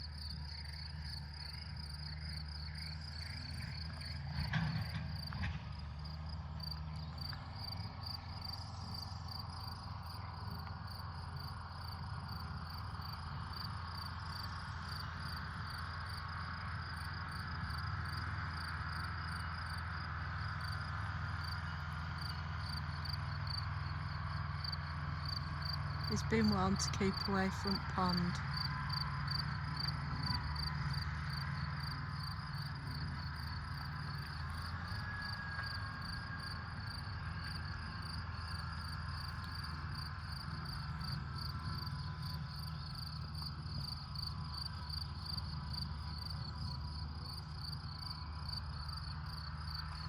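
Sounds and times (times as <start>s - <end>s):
crickets chirping: 0.0s - 26.2s, 28.1s - 50.0s
low steady drone: 6.4s - 50.0s.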